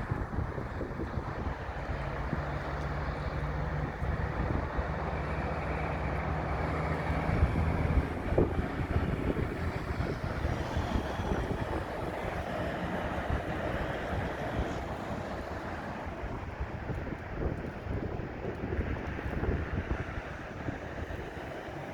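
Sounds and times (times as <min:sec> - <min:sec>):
continuous rushing noise: 0:00.0 - 0:21.9
truck engines droning: 0:00.0 - 0:21.9.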